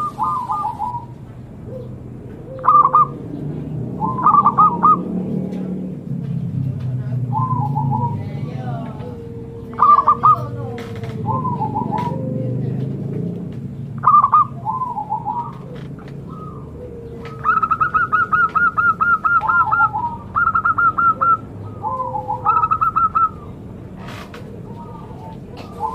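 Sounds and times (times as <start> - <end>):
dove cooing: 0.0 - 25.9.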